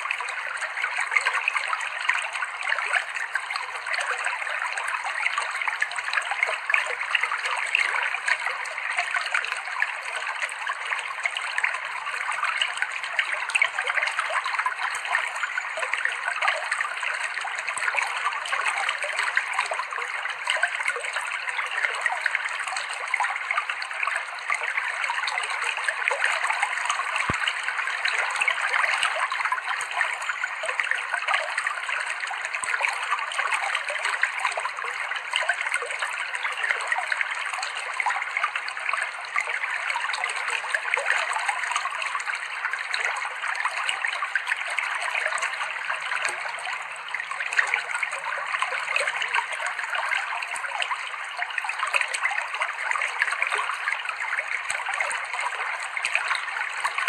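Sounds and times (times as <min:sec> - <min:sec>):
stream water flowing over rocks: 0:00.0 - 0:57.0.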